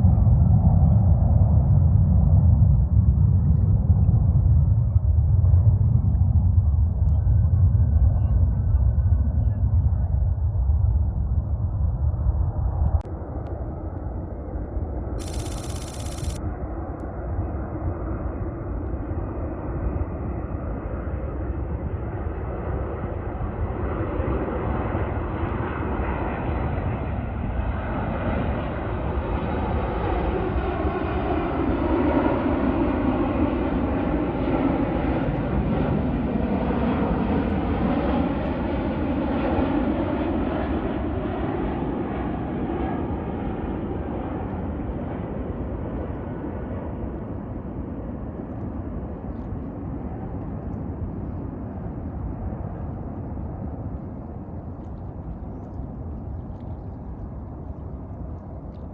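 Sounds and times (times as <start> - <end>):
jet engines passing by: 10.5 - 58.9.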